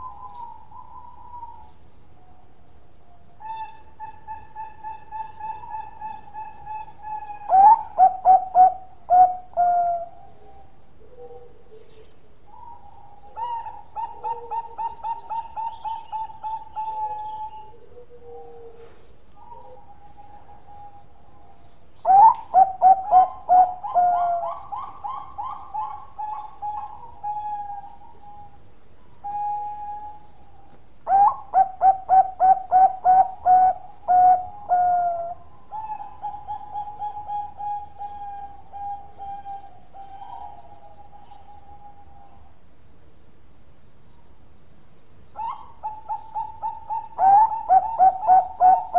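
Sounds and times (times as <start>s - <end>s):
dove cooing: 0.0s - 2.5s, 3.1s - 42.5s, 45.4s - 48.9s.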